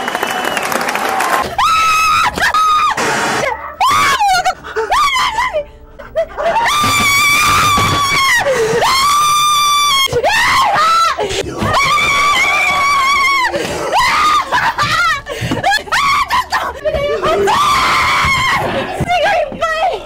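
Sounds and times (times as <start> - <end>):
woman screaming in fright: 1.6 - 5.6, 6.4 - 18.7.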